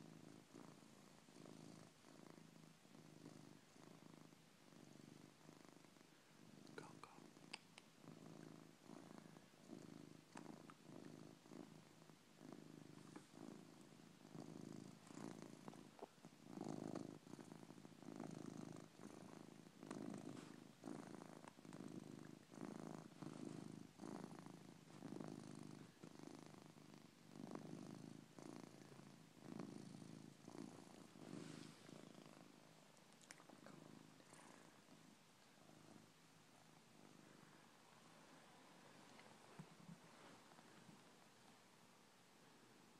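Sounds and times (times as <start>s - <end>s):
cat snoring: 0.0s - 41.1s.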